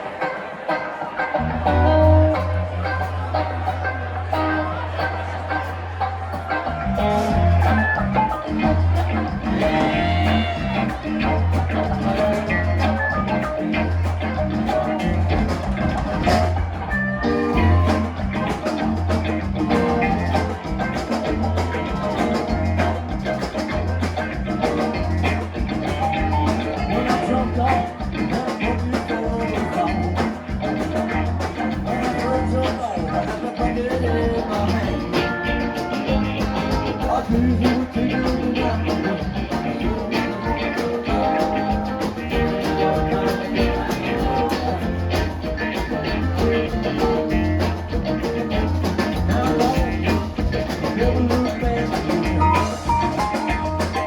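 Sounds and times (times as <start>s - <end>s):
drums: 0.0s - 54.0s
electric guitar: 0.0s - 54.0s
keyboards: 0.0s - 54.0s
bass line: 1.3s - 54.0s.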